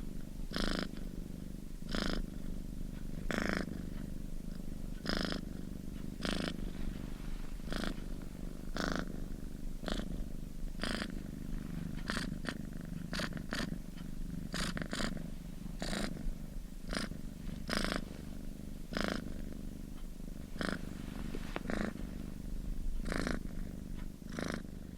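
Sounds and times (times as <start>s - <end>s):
cat purring: 0.0s - 24.9s.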